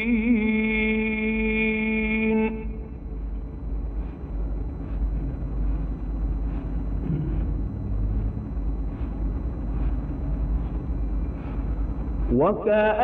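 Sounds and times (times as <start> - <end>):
faint room noise: 0.0 - 13.0
low rumble and hiss: 0.0 - 13.0.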